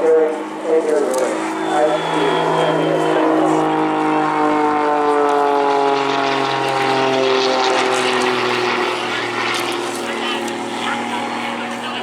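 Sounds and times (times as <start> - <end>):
propeller plane droning in flight: 0.0 - 12.0.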